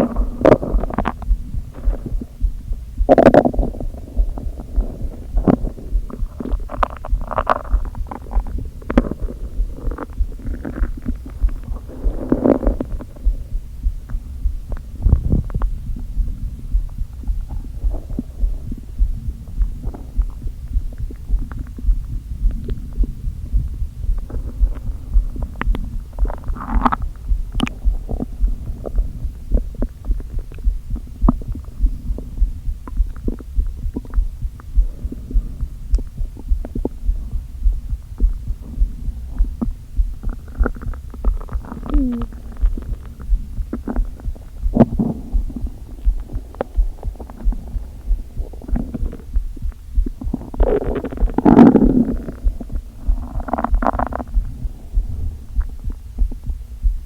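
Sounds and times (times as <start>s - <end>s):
steady low pulse: 0.0s - 57.0s
stomach growling and gurgling: 0.0s - 57.0s.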